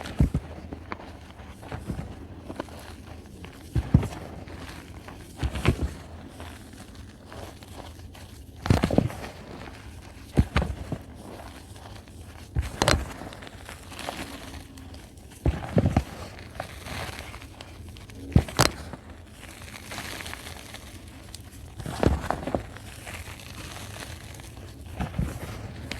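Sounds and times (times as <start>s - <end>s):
crumbly chewing: 0.0s - 25.9s.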